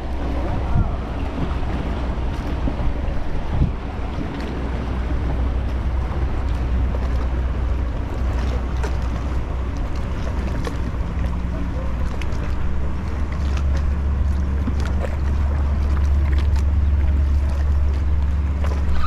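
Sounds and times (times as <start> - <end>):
water lapping around kayak: 0.0 - 19.0
wind rumble on microphone: 0.0 - 19.0.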